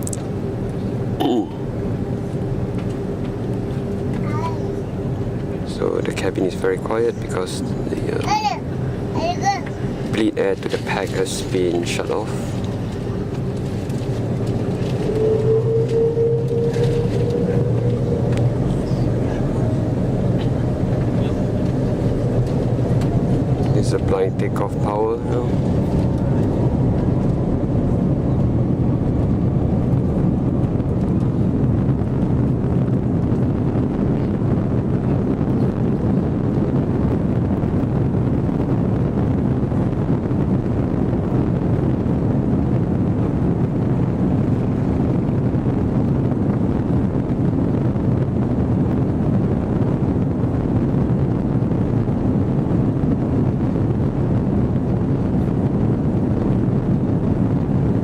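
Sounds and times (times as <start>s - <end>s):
jet engines heard from cabin: 0.0s - 58.0s
rushing air: 7.3s - 58.0s.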